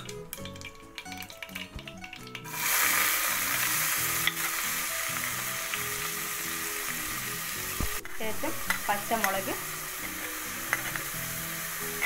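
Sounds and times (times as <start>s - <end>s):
onions sizzling in hot oil: 0.0s - 12.0s
soft background music: 0.0s - 12.0s.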